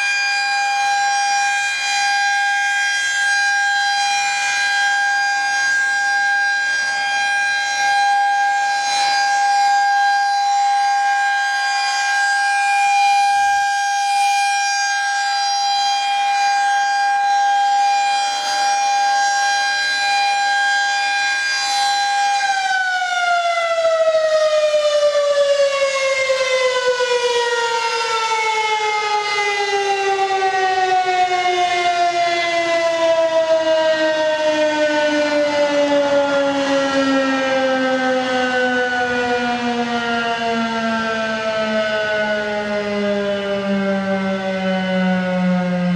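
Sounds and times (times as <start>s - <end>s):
warning siren test tone: 0.0s - 45.9s.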